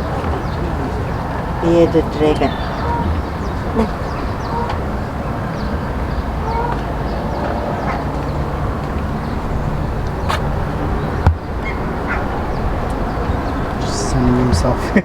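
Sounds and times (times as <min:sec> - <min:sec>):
faint bird calls: 0:00.0 - 0:14.8
steady rumbling background noise: 0:00.0 - 0:15.0.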